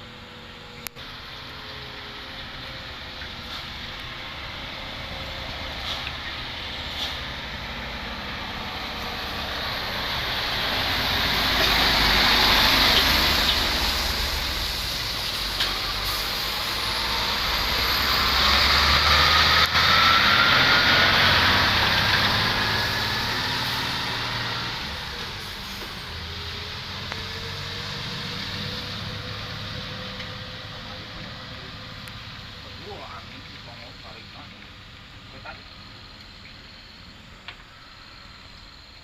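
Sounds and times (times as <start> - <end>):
rising whine: 0.0 - 32.8
trucks passing: 0.0 - 39.0.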